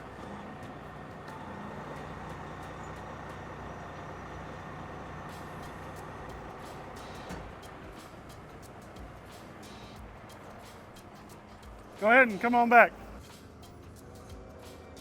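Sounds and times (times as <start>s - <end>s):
diesel truck engine droning: 0.0s - 14.2s.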